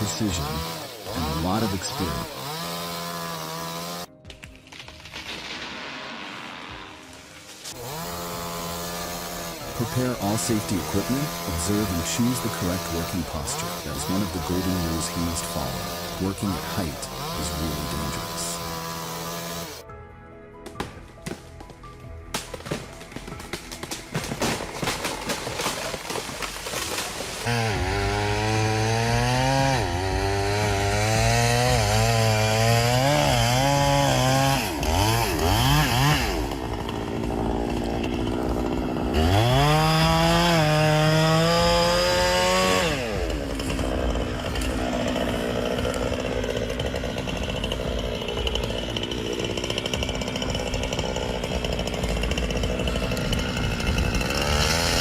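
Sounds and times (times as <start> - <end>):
chainsaw running and cutting: 0.0 - 5.2, 6.6 - 20.1, 22.3 - 55.0.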